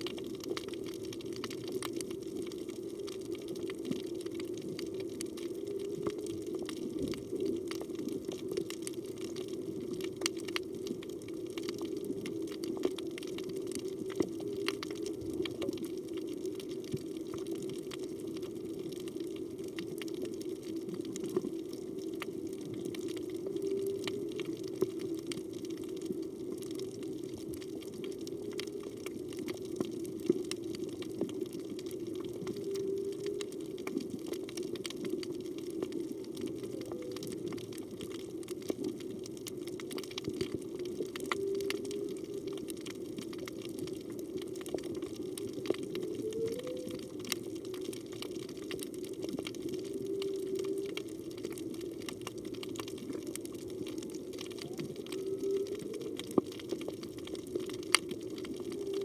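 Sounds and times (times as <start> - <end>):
crackling clicks: 0.0 - 59.0
faint whale song moans: 0.0 - 59.0.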